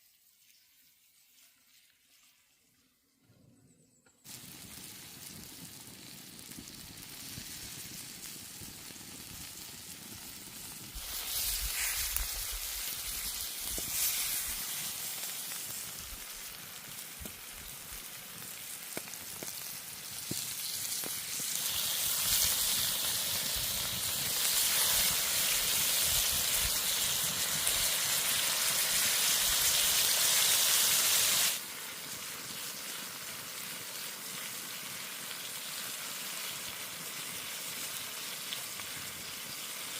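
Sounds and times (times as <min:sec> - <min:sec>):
food sizzling: 0:04.3 - 0:39.9.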